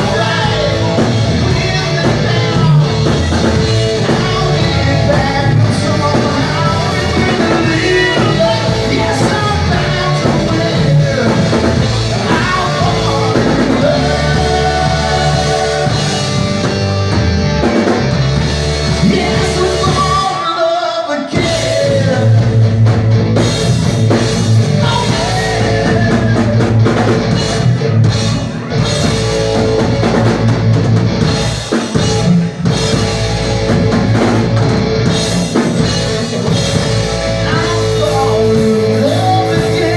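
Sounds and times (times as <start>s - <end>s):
rock song with singer: 0.0s - 39.9s.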